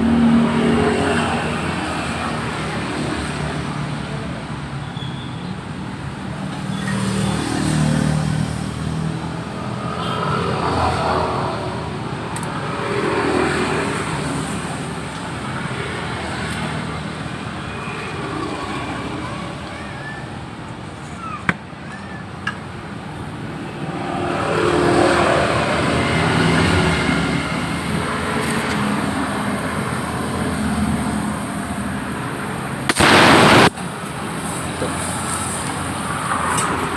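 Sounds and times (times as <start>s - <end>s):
vehicles passing on road: 0.0s - 36.9s.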